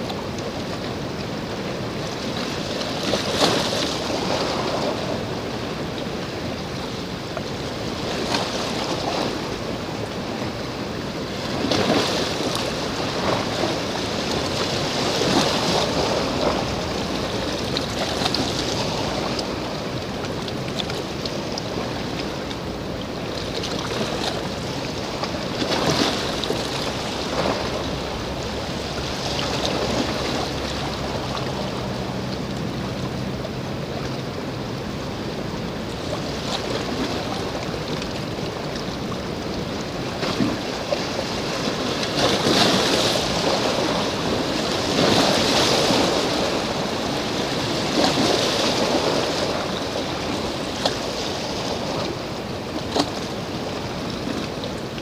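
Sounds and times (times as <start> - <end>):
sea waves washing ashore: 0.0 - 55.0.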